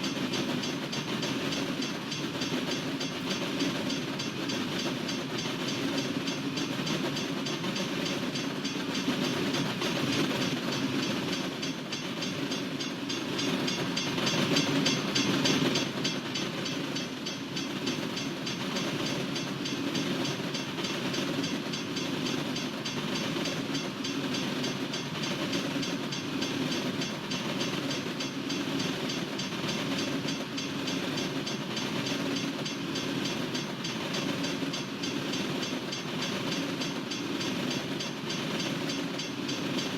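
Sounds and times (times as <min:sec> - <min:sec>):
freight train wheels on rail: 0:00.0 - 0:39.9.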